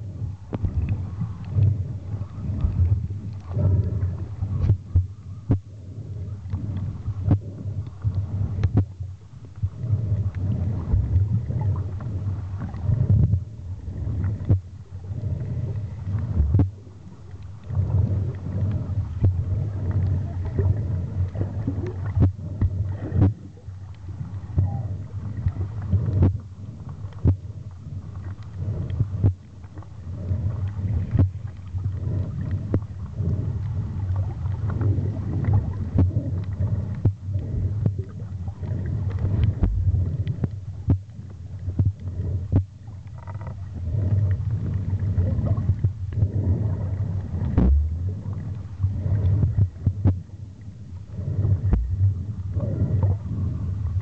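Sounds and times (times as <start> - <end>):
muffled underwater rumble: 0.0 - 54.0
water moving against camera: 0.0 - 54.0.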